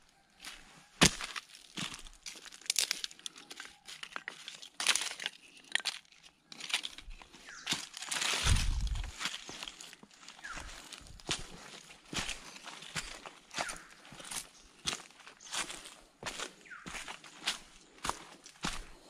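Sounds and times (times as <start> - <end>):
dry leaves crunching: 0.4 - 19.0
dry twigs cracking: 1.0 - 19.0.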